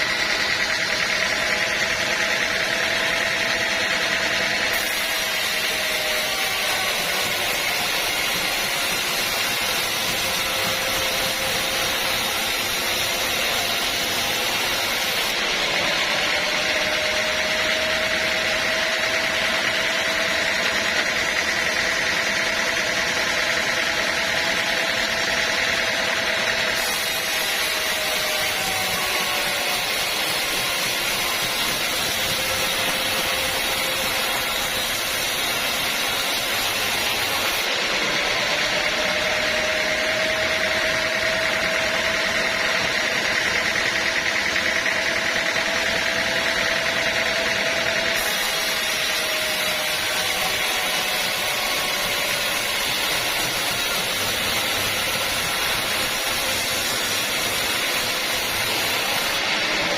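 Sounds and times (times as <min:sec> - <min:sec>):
bandsaw running: 0:00.0 - 0:59.9.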